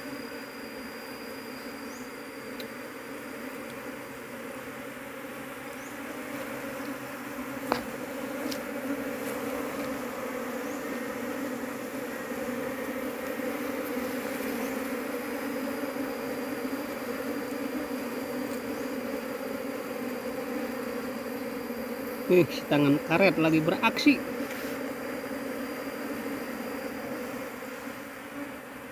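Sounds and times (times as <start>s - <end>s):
bee colony buzzing: 0.0s - 28.9s.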